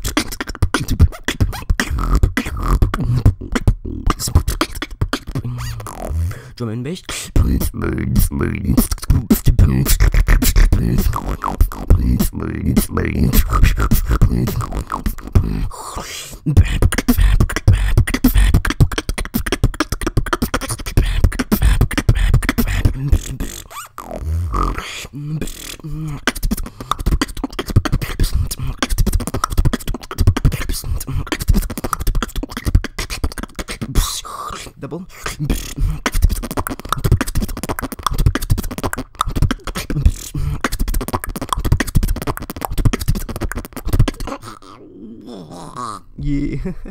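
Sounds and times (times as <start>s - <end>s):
human beatboxing: 0.0s - 46.9s.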